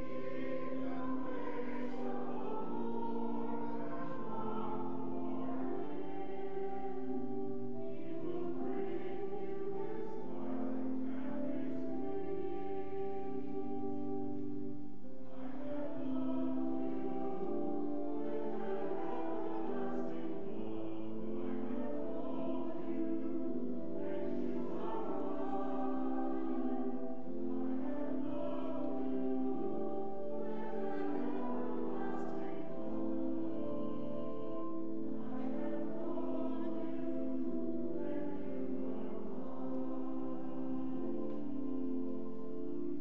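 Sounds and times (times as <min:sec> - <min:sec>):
voices singing a hymn: 0:00.0 - 0:43.0.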